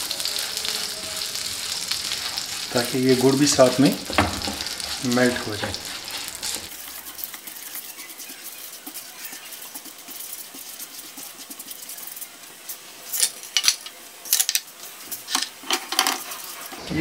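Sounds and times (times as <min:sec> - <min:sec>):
spatula scraping a pan: 0:00.0 - 0:13.6, 0:14.3 - 0:17.0
butter sizzling in a frying pan: 0:00.0 - 0:17.0.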